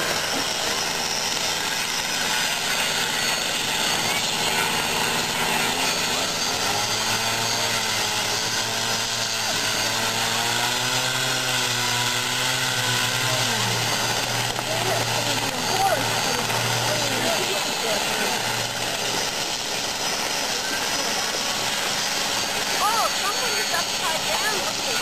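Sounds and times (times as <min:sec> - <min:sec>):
motor humming: 0:00.0 - 0:25.0
power tools cutting ice: 0:00.0 - 0:25.0.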